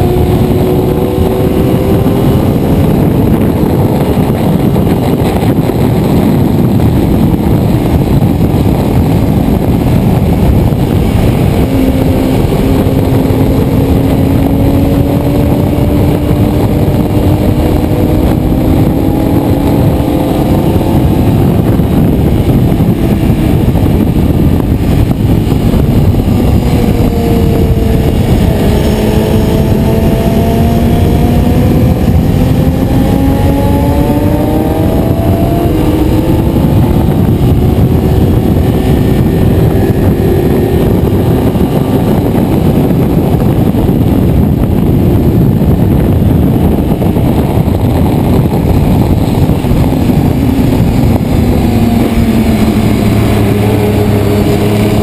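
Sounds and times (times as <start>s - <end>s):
motorcycle engine revving: 0.0s - 55.0s
wind rush on microphone: 0.0s - 55.0s.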